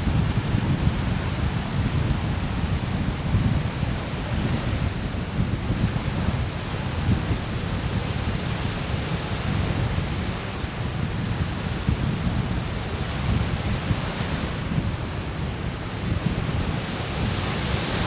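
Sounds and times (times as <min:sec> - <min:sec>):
waves washing onto shore: 0:00.0 - 0:18.0
wind buffeting microphone: 0:00.0 - 0:18.0.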